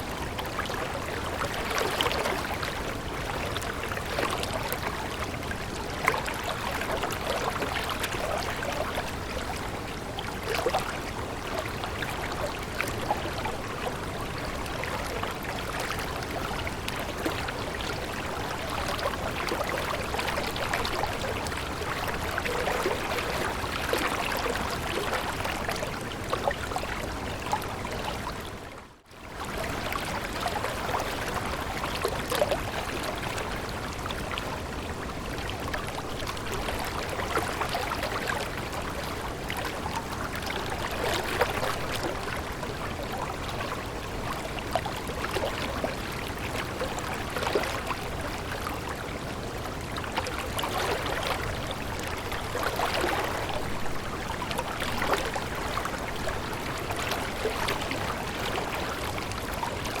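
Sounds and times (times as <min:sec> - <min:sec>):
small stream flowing: 0:00.0 - 1:00.0.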